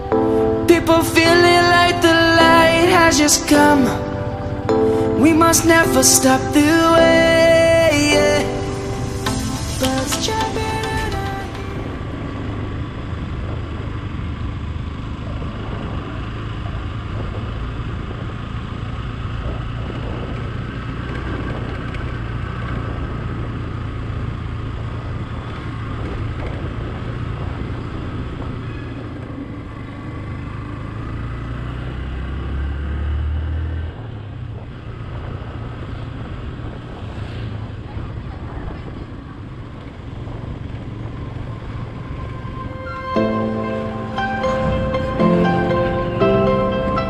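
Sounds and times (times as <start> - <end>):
motorcycle engine rumbling: 0.0 - 47.0.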